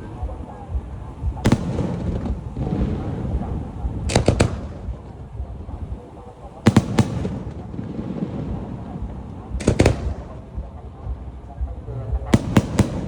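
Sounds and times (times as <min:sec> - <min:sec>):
continuous low rumble: 0:00.0 - 0:13.0
fireworks bangs: 0:00.0 - 0:13.0.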